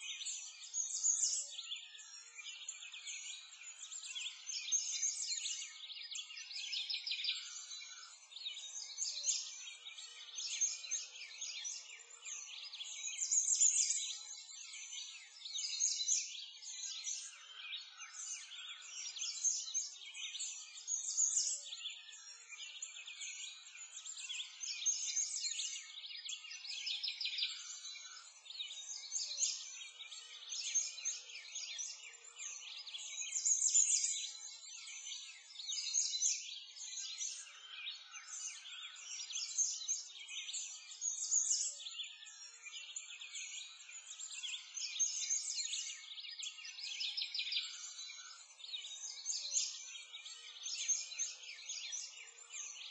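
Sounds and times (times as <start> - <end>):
birds chirping and singing: 0.0 - 52.9.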